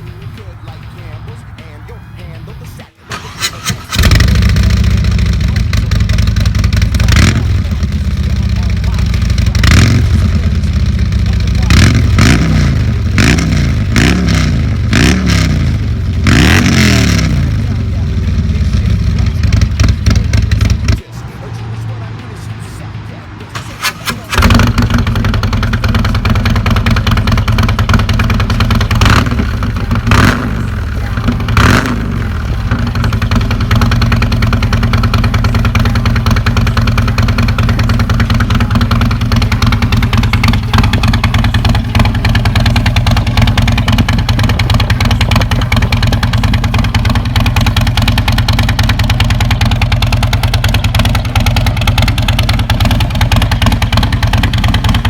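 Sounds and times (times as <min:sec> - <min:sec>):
motorcycle throttle blips: 0:00.0 - 0:21.1, 0:23.5 - 0:55.0
motorcycle engine idling: 0:00.0 - 0:55.0.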